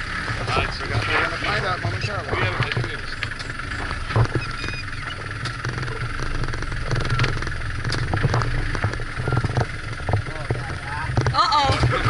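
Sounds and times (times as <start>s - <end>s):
jeep engine running: 0.0s - 12.0s
scattered knocks: 0.5s - 12.0s.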